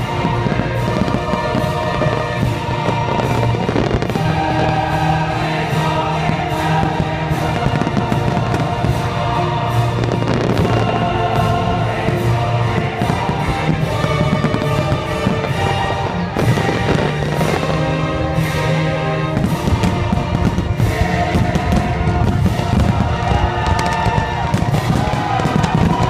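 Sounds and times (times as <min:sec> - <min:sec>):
loud music: 0:00.0 - 0:26.0.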